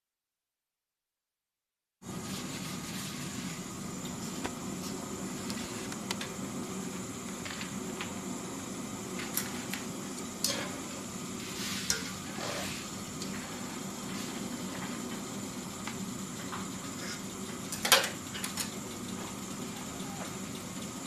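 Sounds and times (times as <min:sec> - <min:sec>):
steady hiss: 0:02.1 - 0:21.0.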